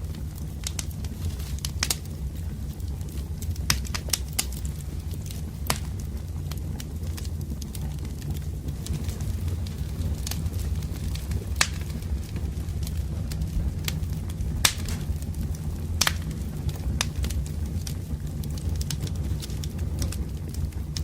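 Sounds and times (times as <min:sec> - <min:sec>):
campfire burning: 0:00.0 - 0:21.0
firewood crackling pops: 0:00.1 - 0:21.0.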